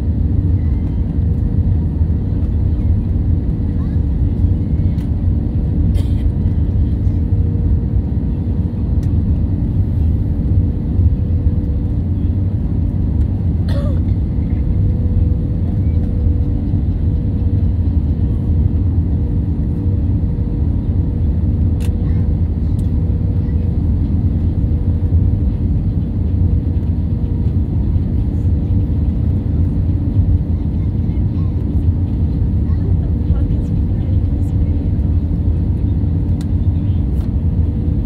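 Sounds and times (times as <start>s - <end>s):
airliner cabin rumble: 0.0s - 38.0s
steady hum: 0.0s - 38.0s.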